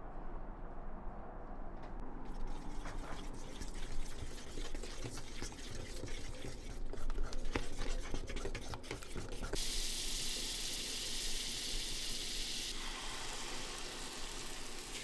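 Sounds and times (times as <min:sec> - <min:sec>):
batter pouring and mixing: 0:02.3 - 0:15.0.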